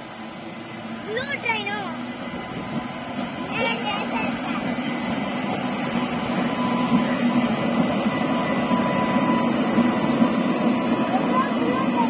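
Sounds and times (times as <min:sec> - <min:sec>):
electric locomotive passing: 0:00.0 - 0:12.0.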